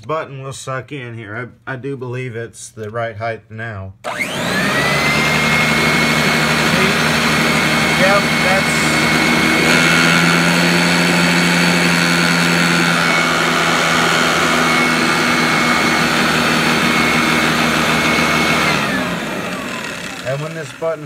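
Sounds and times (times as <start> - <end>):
vacuum cleaner running on carpet: 4.1 - 21.0.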